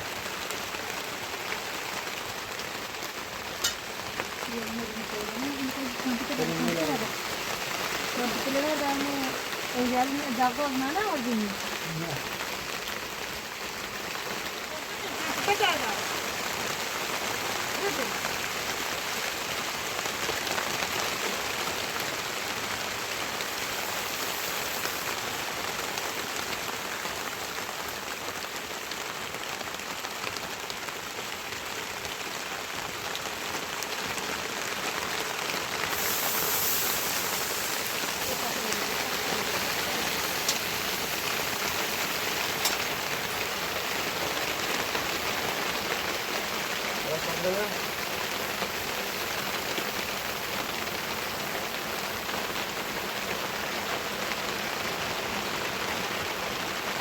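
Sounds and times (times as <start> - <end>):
raindrop ticks: 0.0 - 54.6
heavy rain hissing: 0.0 - 57.0.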